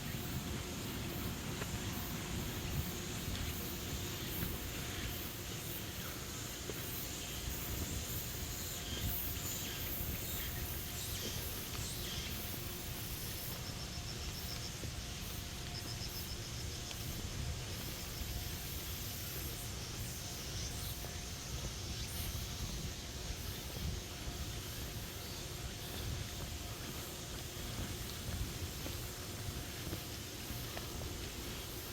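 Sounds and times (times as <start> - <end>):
insects hissing: 0.0 - 31.9.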